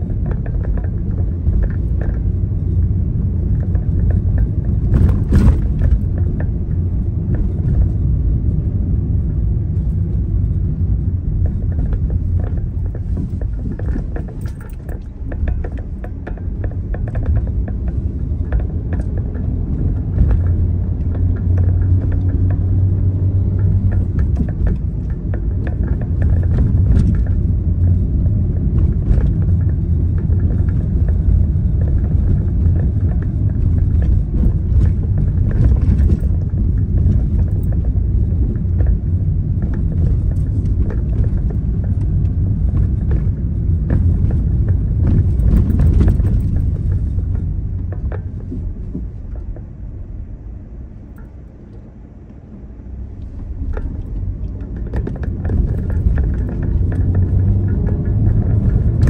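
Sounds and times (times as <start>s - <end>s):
knocks and rattles: 0.0s - 49.7s, 53.2s - 59.0s
car engine and road rumble: 0.0s - 59.0s.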